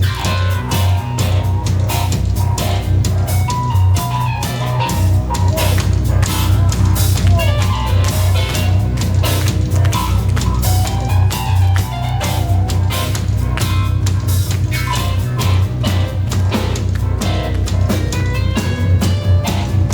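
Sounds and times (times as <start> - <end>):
drum kit hits: 0.0 - 19.9
heavy bass guitar: 0.0 - 19.9
held keyboard notes: 0.0 - 19.9.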